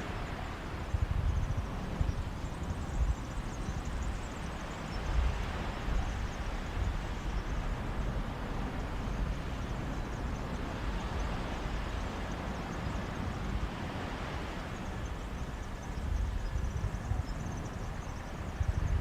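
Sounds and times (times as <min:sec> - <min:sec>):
sea waves on a beach: 0:00.0 - 0:19.0
wind on microphone: 0:00.0 - 0:19.0.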